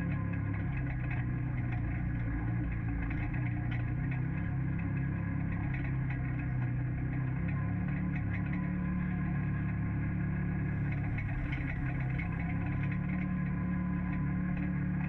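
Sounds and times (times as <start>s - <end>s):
light rattles: 0.0s - 15.0s
vehicle engine running: 0.0s - 15.0s.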